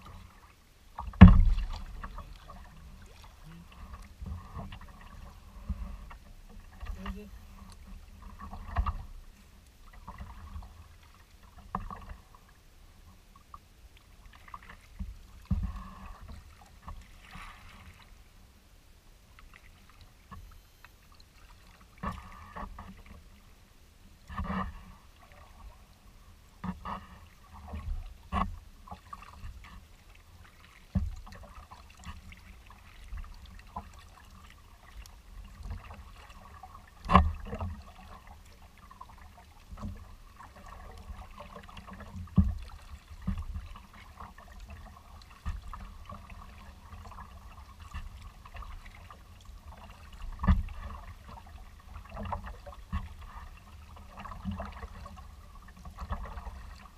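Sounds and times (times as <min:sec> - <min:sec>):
paddle splashing in water: 0:00.0 - 0:12.6, 0:13.3 - 0:18.3, 0:19.3 - 0:23.6, 0:24.2 - 0:56.9
water trickling off paddle: 0:00.0 - 0:18.4, 0:19.3 - 0:56.9.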